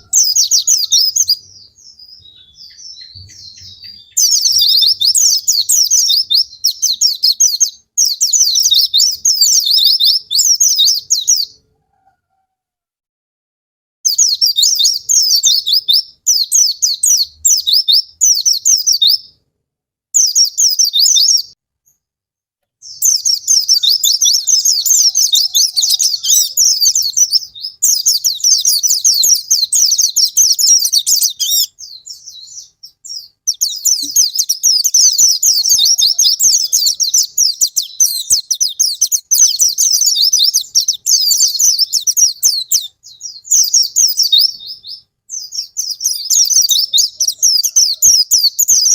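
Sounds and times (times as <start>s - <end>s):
bird twittering song: 0.0s - 11.7s, 14.1s - 19.4s, 20.2s - 22.0s, 22.8s - 48.9s.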